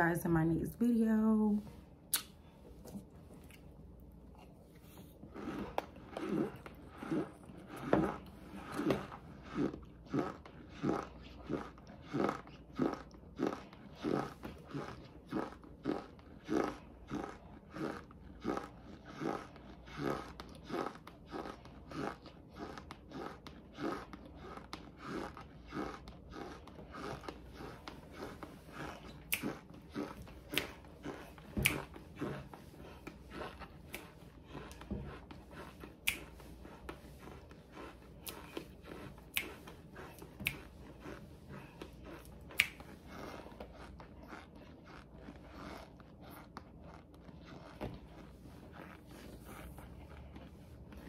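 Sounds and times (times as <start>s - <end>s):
chewing with crunches: 2.1s - 51.0s.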